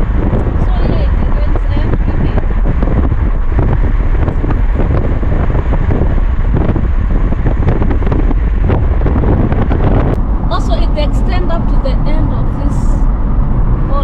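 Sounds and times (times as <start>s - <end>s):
car road noise: 0.0s - 14.0s
wind buffeting microphone: 0.0s - 14.0s.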